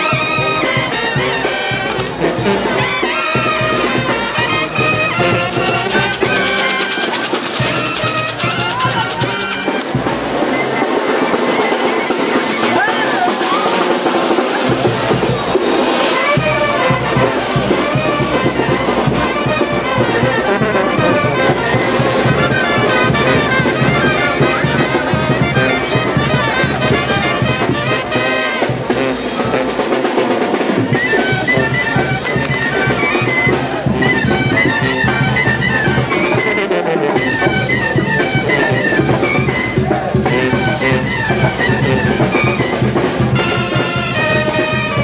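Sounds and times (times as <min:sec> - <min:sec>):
brass band playing: 0:00.0 - 0:45.0.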